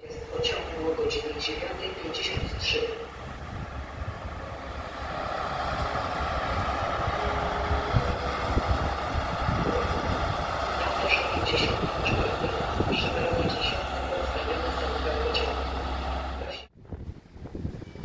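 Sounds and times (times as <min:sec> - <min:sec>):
electric train rumble and hiss: 0:00.0 - 0:18.0.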